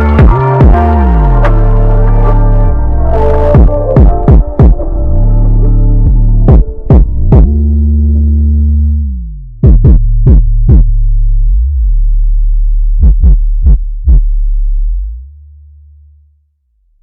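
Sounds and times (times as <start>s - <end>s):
electronic music with deep bass: 0.0s - 16.0s.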